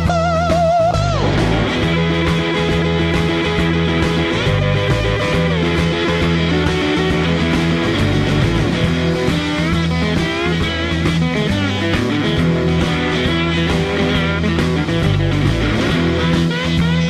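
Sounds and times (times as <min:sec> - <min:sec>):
bass line: 0:00.0 - 0:17.0
electric guitar lead: 0:00.0 - 0:17.0.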